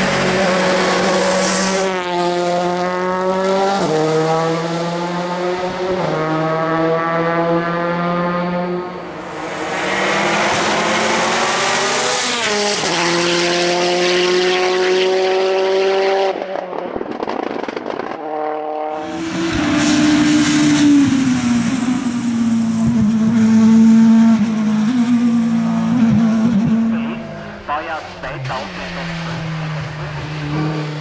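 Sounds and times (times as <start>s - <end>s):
race car engines at full throttle: 0.0s - 31.0s.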